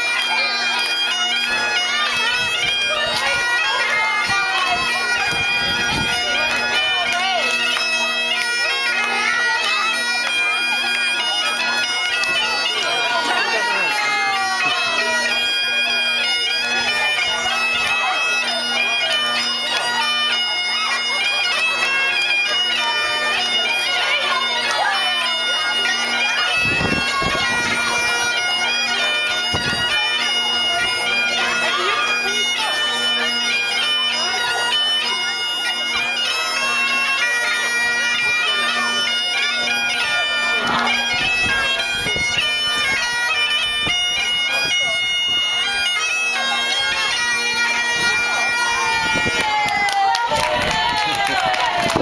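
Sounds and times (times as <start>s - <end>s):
bagpipes playing a tune: 0.0s - 52.0s.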